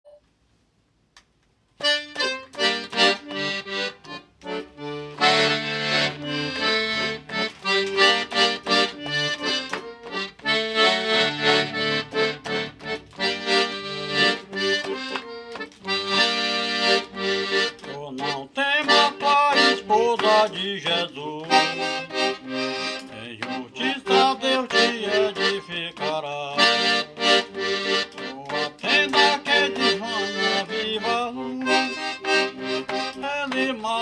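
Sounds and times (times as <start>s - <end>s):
accordion playing hymn: 1.8s - 34.0s.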